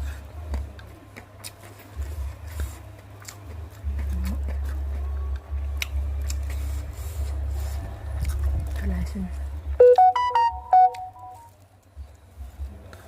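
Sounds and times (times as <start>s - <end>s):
crunchy chewing of fried food: 0.0s - 9.8s, 11.3s - 13.0s.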